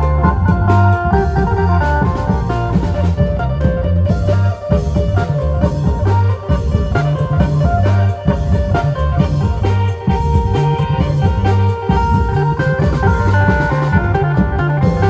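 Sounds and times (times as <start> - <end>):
deep drum beats: 0.0 - 15.0
plucked strings melody: 0.0 - 15.0.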